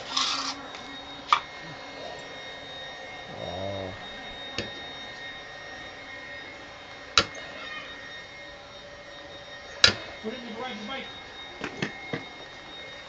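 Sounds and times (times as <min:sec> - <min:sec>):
steady faint whine: 0:00.0 - 0:13.0.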